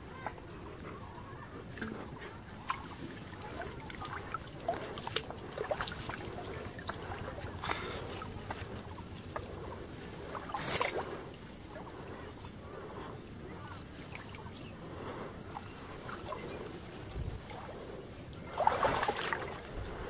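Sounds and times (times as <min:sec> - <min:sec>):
person wading through water: 0:00.6 - 0:20.0
water splashing: 0:01.7 - 0:13.0, 0:13.8 - 0:20.0.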